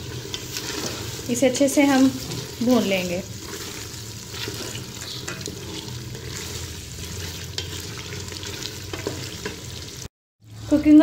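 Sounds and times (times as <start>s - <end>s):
wooden spatula scraping pan: 0.0s - 10.0s
curry sizzling in hot oil: 0.0s - 11.0s.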